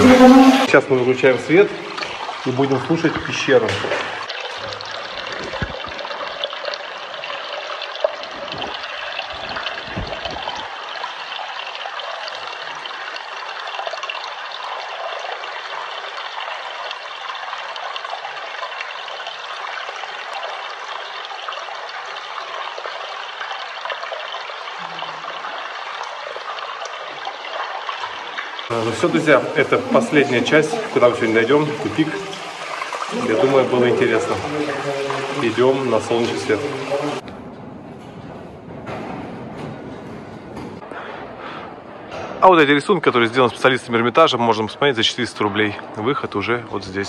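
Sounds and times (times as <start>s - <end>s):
water trickling in a cave: 0.1s - 37.2s, 42.4s - 47.0s.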